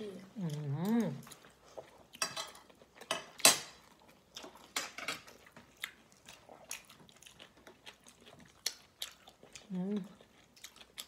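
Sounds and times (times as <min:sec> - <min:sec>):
person chewing: 0:00.1 - 0:11.0.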